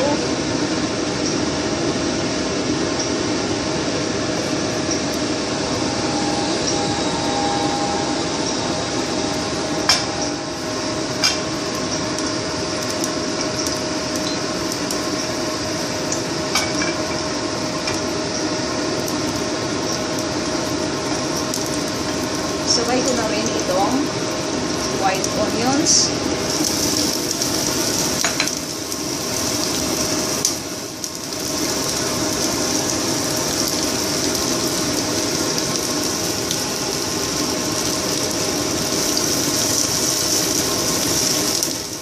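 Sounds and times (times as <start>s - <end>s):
exhaust fan whirring: 0.0s - 42.0s.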